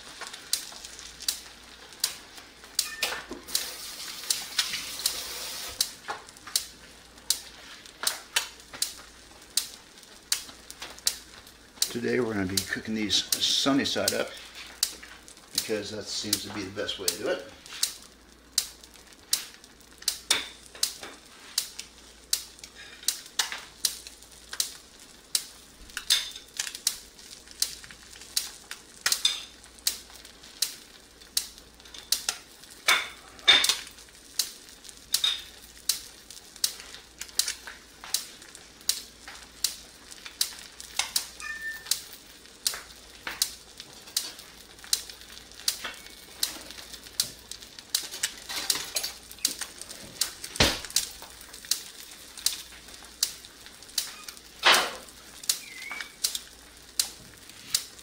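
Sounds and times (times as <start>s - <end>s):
grease popping and crackling: 0.0s - 58.0s.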